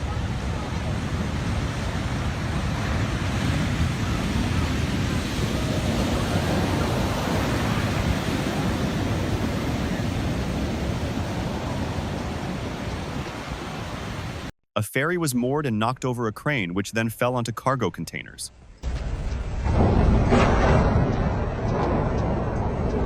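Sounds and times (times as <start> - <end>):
sea waves crashing against wall: 0.0 - 14.5, 18.8 - 23.0
wind rumbling on microphone: 0.0 - 14.5, 18.8 - 23.0.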